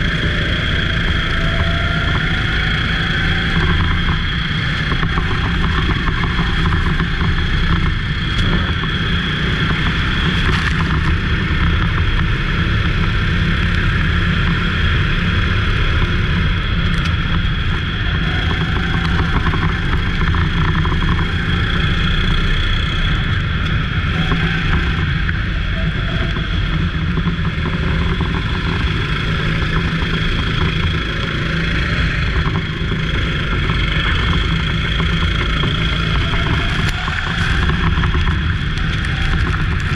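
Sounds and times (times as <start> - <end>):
go-kart engine droning: 0.0 - 39.9.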